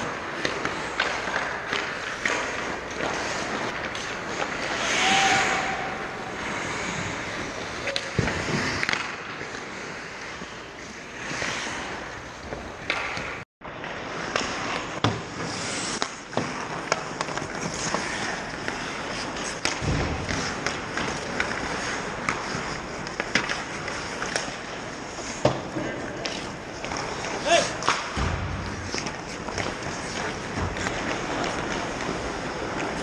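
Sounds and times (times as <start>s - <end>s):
hockey sticks and pucks clicking: 0.0s - 33.0s
skate blades scraping ice: 0.0s - 33.0s.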